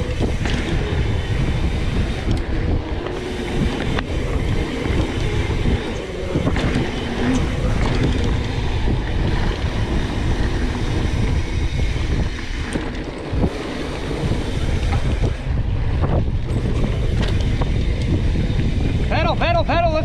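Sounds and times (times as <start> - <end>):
bike knocks and rattles: 0.0 - 19.2
bike tyres rolling on dirt: 0.0 - 20.0
wind buffeting microphone: 0.0 - 20.0.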